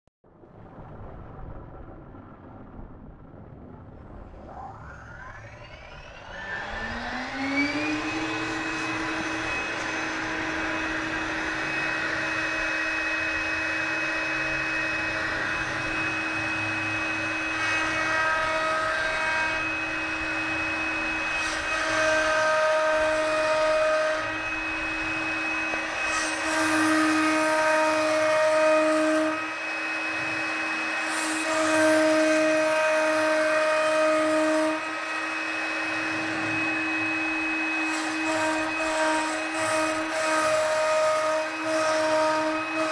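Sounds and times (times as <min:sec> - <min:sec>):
router spindle whining: 0:05.0 - 0:42.9
router bit cutting wood: 0:05.4 - 0:42.9.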